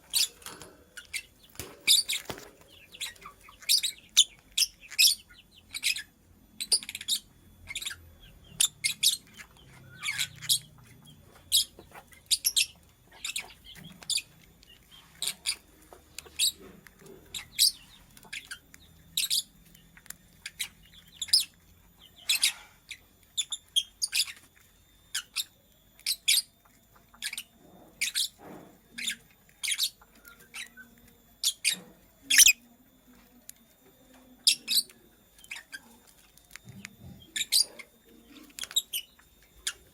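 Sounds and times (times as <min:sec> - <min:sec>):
bird high-pitched chirps: 0:01.0 - 0:32.7, 0:34.0 - 0:39.9.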